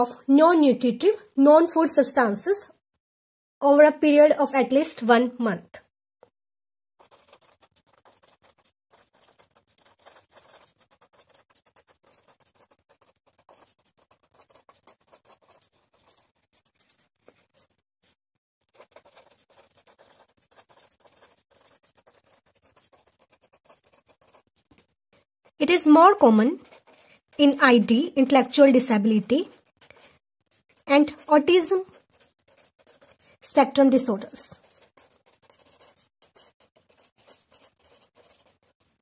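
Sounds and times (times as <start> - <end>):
marker pen scratching on paper: 7.0 - 39.0.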